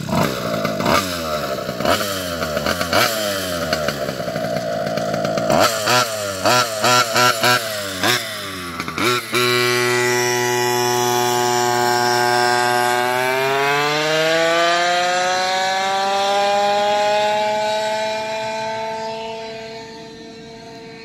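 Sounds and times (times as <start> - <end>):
go-kart engine running hard: 0.0 - 21.0.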